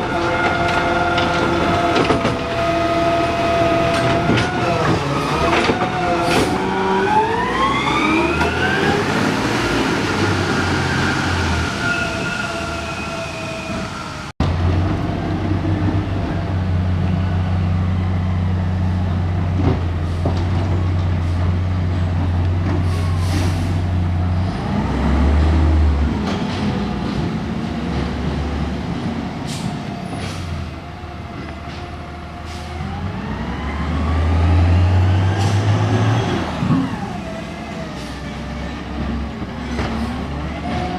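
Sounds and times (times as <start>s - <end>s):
garbage truck diesel engine: 0.0s - 40.9s.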